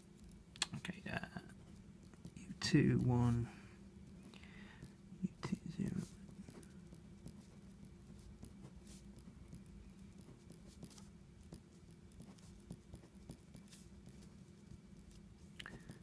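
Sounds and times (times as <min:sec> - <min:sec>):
low steady hum: 0:00.0 - 0:16.0
ballpoint pen writing on paper: 0:01.4 - 0:03.4, 0:04.2 - 0:16.0.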